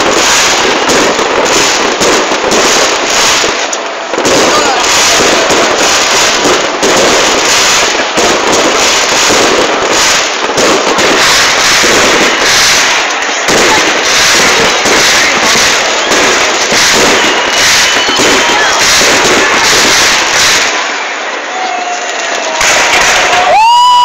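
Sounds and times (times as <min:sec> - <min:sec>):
aerial fireworks bursting: 0:00.0 - 0:24.0
crackling fireworks stars: 0:00.0 - 0:24.0.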